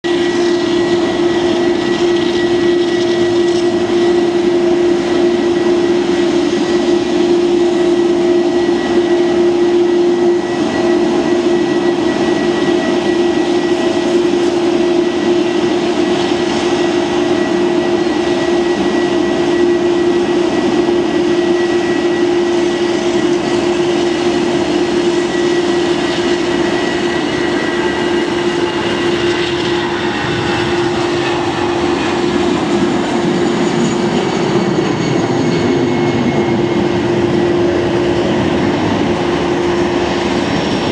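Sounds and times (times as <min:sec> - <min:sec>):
jet engines humming and whining: 0:00.0 - 0:40.9.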